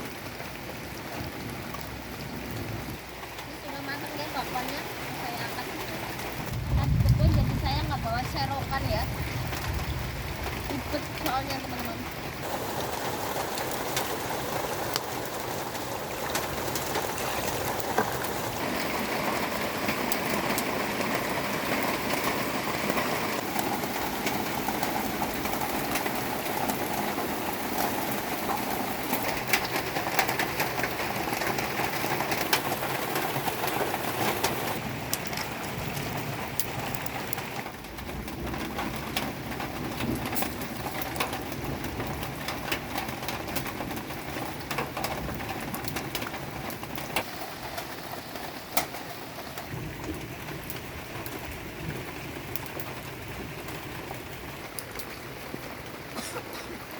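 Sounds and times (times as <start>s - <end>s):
sharp ticks of raindrops: 0.0s - 56.9s
steady rain falling: 0.0s - 56.9s.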